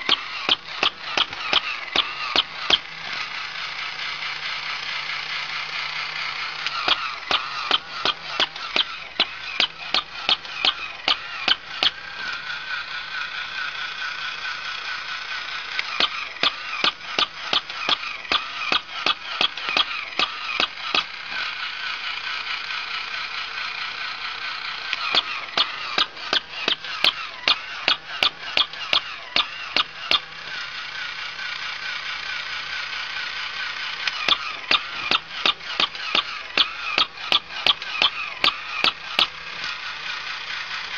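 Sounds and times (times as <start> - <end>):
high-pitched wavering toy whine: 0.0 - 40.9
toy gear mechanism clicking: 0.0 - 40.9.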